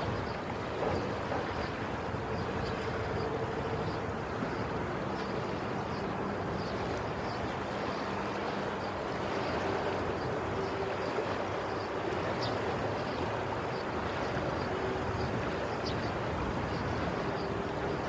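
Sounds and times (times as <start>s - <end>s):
rushing waves and water: 0.0s - 18.0s.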